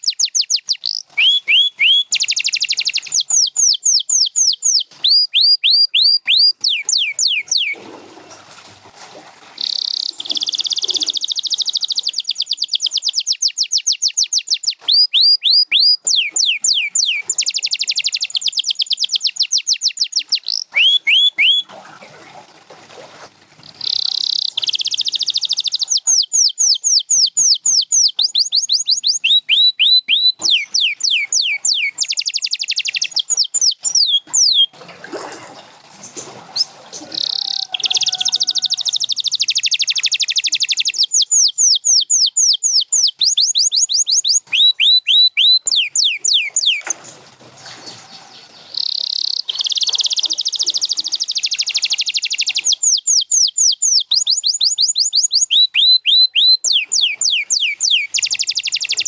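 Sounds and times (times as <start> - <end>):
canary singing: 0.0 - 7.8, 9.6 - 21.7, 23.8 - 34.8, 36.4 - 47.1, 47.8 - 59.0.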